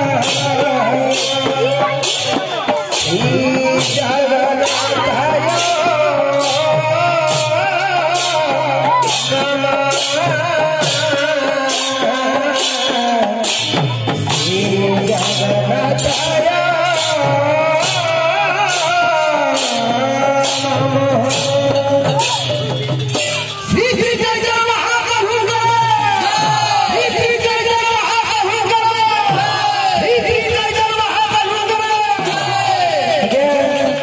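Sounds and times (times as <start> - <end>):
man singing into a microphone: 0.0 - 23.0, 23.6 - 34.0
barrel drum: 0.0 - 34.0
hand cymbals clashing: 0.0 - 34.0.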